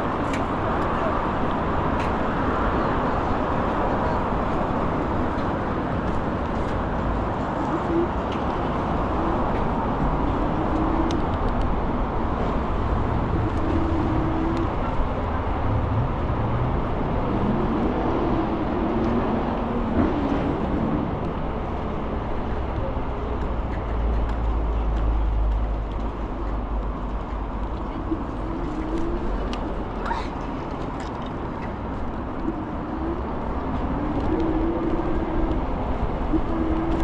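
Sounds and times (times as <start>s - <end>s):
street traffic: 0.0s - 37.0s
wind on microphone: 0.0s - 37.0s.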